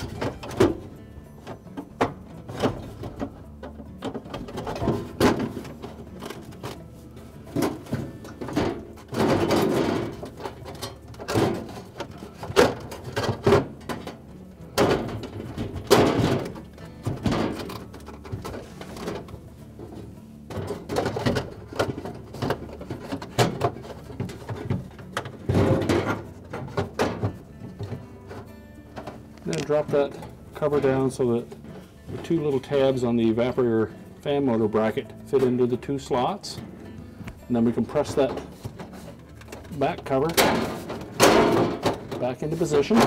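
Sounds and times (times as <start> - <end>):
knocks clatters and scrapes: 0.0 - 43.0.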